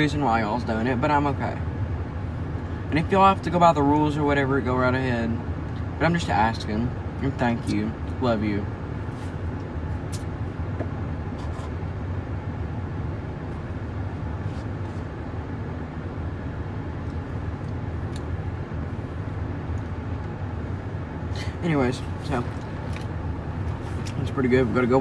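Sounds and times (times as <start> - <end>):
car idling: 0.0 - 25.0.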